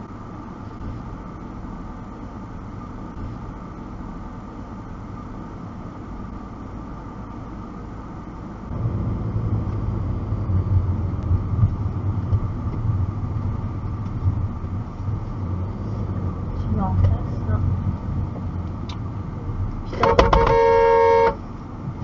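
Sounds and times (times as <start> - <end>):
car engine and road rumble: 0.0 - 22.0
car interior hum: 0.0 - 22.0.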